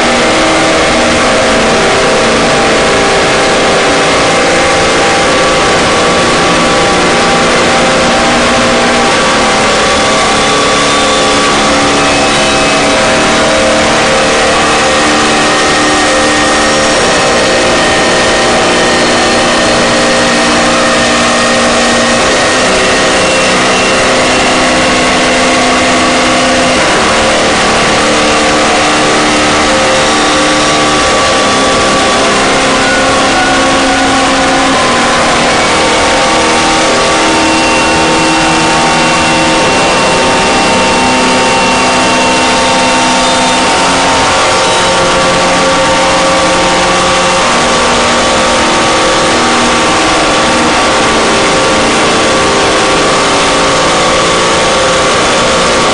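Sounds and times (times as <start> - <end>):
harsh noise drone music: 0.0 - 55.9.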